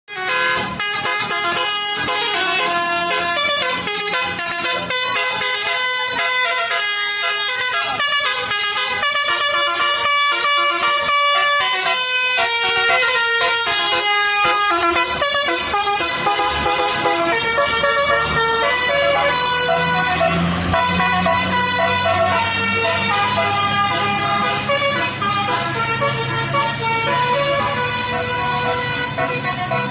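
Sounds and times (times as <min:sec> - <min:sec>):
musical bus horn melody: 0:00.1 - 0:29.9.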